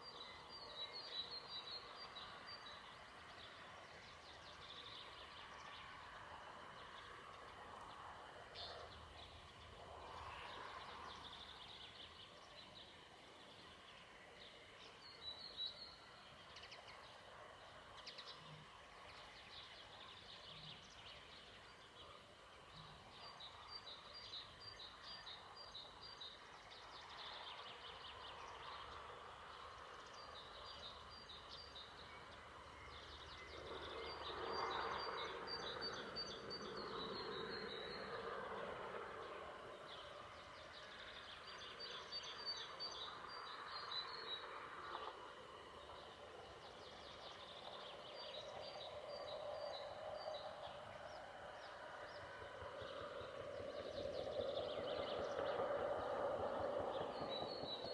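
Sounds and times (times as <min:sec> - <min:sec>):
faint high insect hum: 0:00.0 - 0:57.9
songbird singing: 0:00.0 - 0:57.9.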